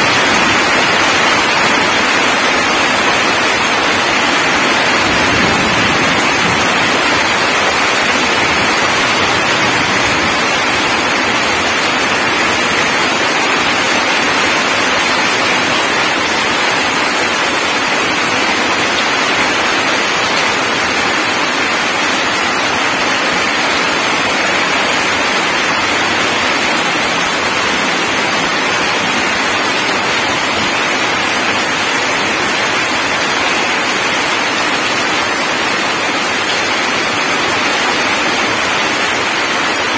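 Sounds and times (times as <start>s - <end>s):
heavy rain splashing into puddles: 0.0s - 39.9s.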